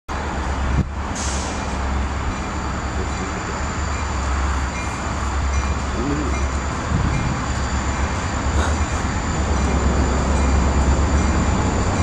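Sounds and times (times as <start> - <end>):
train wheels rumbling on rail: 0.1 - 12.0.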